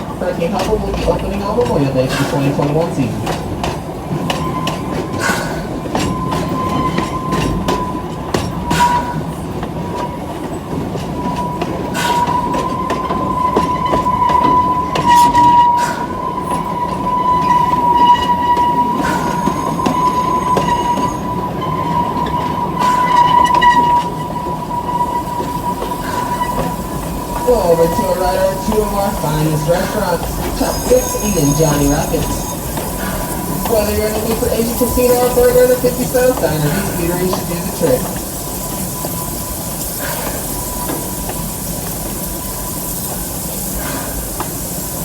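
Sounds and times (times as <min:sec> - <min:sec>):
rail joint clicks: 0:00.0 - 0:45.0
train low rumble: 0:00.0 - 0:45.0
wheel squeal: 0:04.3 - 0:45.0.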